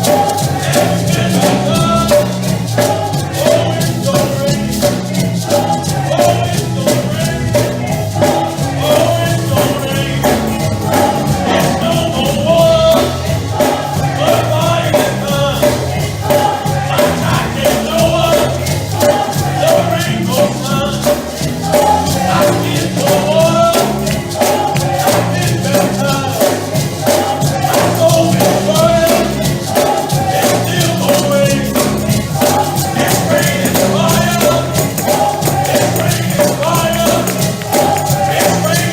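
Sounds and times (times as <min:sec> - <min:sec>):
bass line: 0:00.0 - 0:38.9
tambourine and drum beat: 0:00.0 - 0:38.9
voices singing together: 0:00.0 - 0:38.9.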